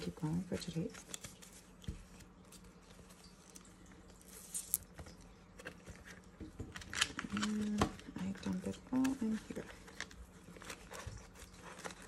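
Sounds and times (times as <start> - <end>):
banknotes and plastic rustling: 0.0 - 12.0.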